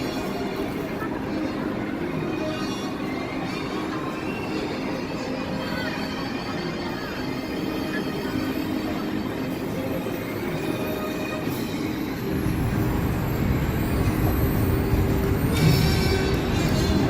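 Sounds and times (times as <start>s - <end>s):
ride car rumbling on track: 0.0s - 17.0s.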